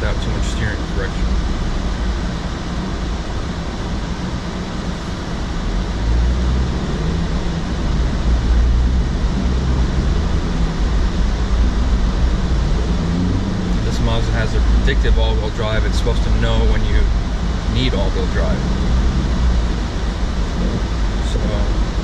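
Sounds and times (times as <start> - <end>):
car interior road and engine rumble: 0.0 - 22.0.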